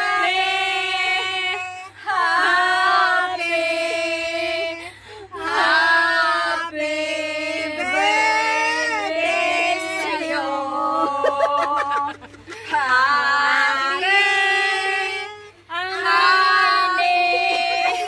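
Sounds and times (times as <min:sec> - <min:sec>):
women singing together: 0:00.0 - 0:18.0.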